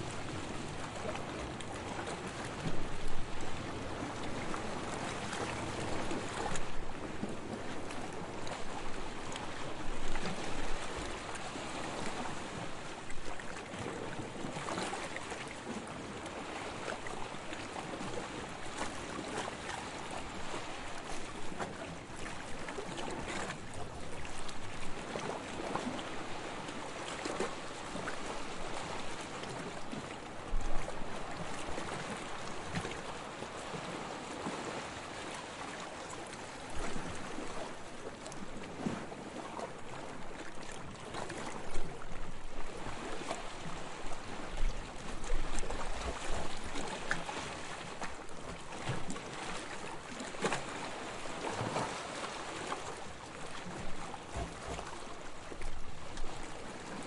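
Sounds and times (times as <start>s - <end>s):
sea water lapping and splashing: 0.0s - 57.0s.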